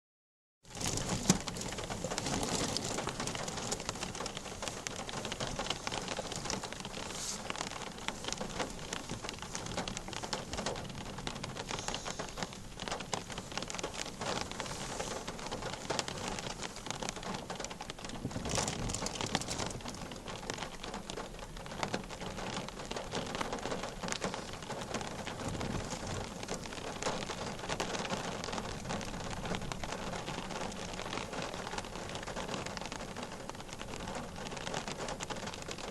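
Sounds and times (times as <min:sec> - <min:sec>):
heavy rain falling: 0:00.7 - 0:35.9.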